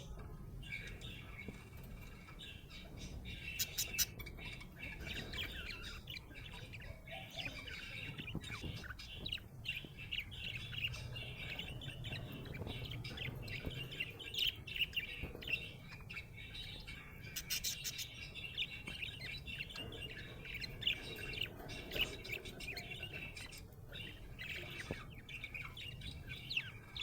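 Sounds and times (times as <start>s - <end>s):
budgerigar chirping: 0.0s - 27.0s.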